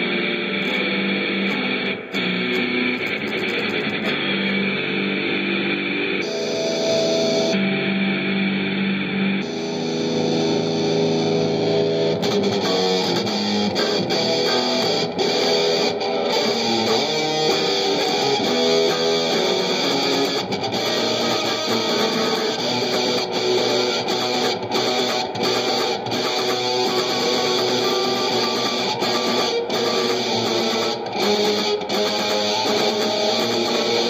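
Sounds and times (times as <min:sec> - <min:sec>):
electric guitar playing: 0:00.0 - 0:34.0.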